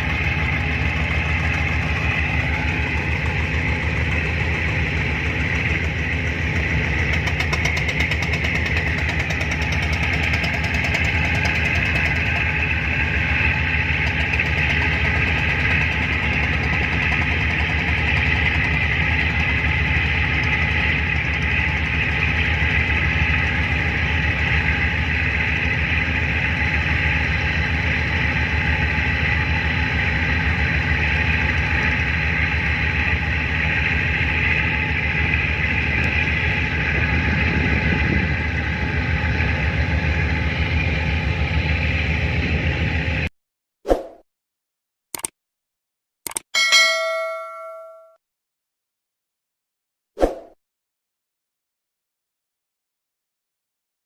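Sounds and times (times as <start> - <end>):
boat engine running: 0.0 - 43.3.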